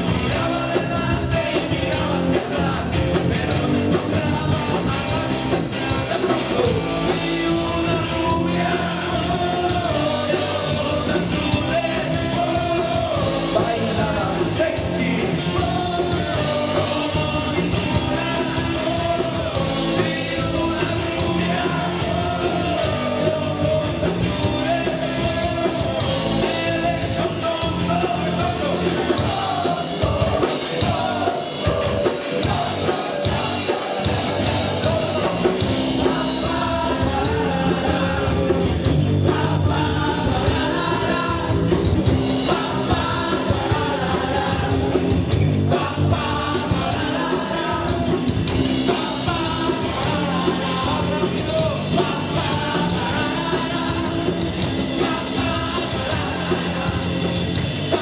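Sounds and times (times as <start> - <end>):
bass: 0.0 - 58.0
drums: 0.0 - 58.0
electric guitars: 0.0 - 58.0
man singing lead: 0.0 - 58.0.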